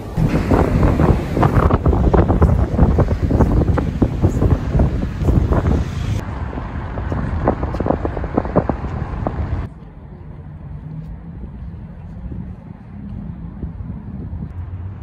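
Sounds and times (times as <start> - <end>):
wind buffeting microphone: 0.0 - 9.7, 10.9 - 14.6.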